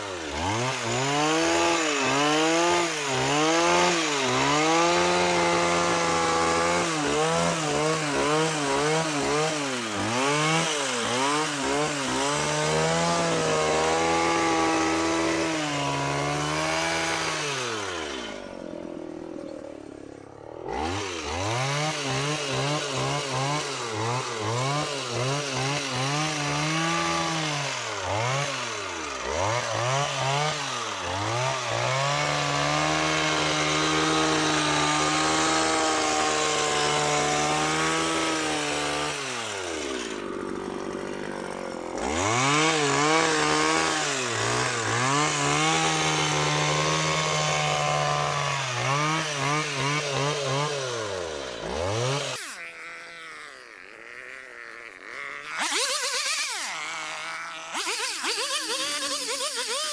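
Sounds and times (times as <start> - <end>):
hedge trimmer engine revving: 0.0 - 59.9.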